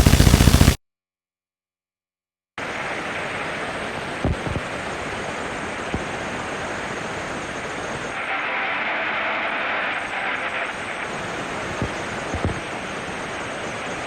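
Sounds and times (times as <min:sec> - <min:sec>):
dense static-like hiss: 0:02.6 - 0:14.0.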